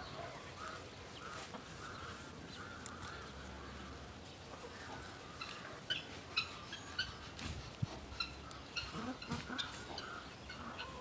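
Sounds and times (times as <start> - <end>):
chickens and guinea fowl calling: 0.0 - 11.0.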